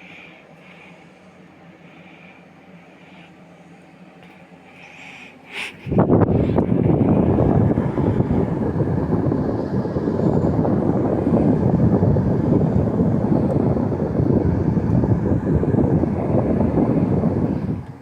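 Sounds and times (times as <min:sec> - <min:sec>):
air conditioner fan running: 0:00.0 - 0:18.0.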